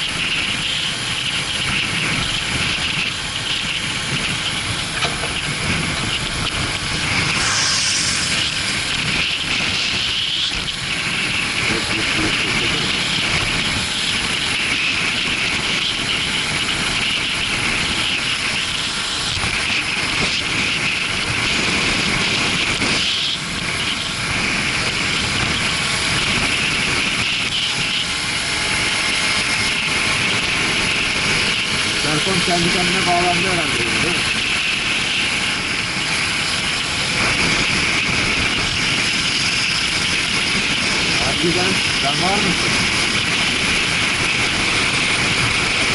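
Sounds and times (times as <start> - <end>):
motorcycle engine running: 0.0 - 45.9
wind rush over microphone: 0.0 - 45.9.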